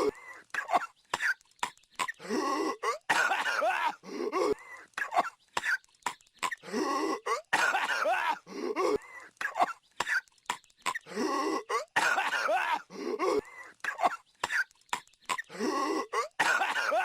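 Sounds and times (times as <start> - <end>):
cartoon coughing fit: 0.0 - 1.4, 2.0 - 10.2, 10.9 - 14.7, 15.3 - 17.0.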